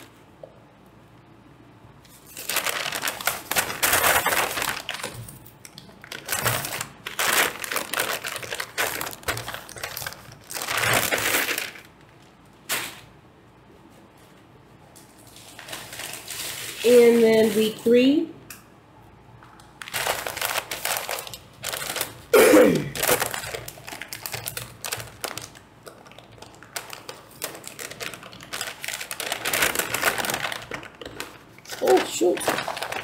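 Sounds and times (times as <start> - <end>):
paper packaging rustling and crinkling: 2.0 - 13.1, 13.8 - 18.0, 19.8 - 33.0.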